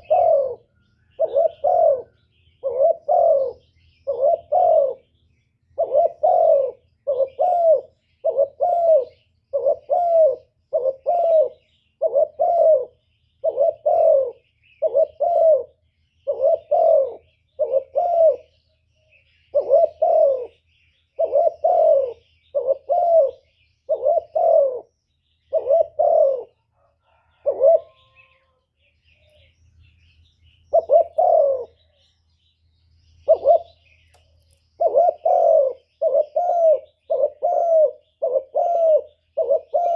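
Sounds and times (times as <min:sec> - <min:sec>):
dove cooing: 0:00.0 - 0:05.2, 0:05.8 - 0:18.7, 0:19.3 - 0:28.6, 0:30.7 - 0:32.1, 0:33.2 - 0:33.9, 0:34.8 - 0:39.9
small birds chirping: 0:00.0 - 0:39.9.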